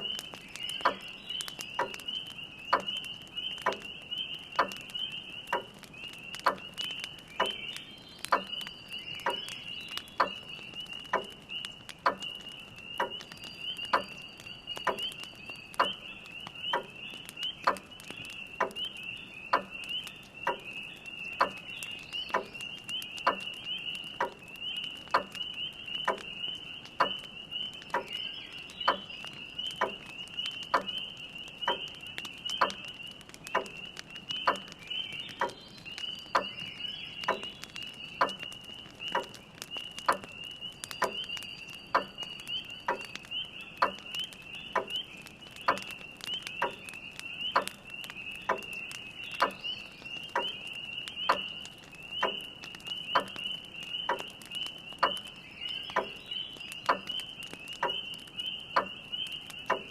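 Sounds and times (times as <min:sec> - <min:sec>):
spring peepers chorus: 0:00.0 - 0:59.9
wood fire crackling: 0:00.0 - 0:59.9.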